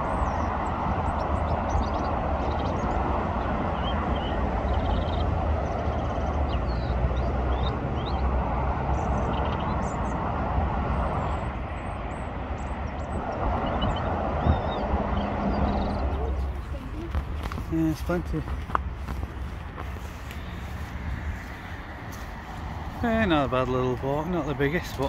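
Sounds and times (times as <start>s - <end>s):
small birds chirping: 0.0s - 10.3s, 10.9s - 25.0s
rumbling outdoor noise: 0.0s - 25.0s.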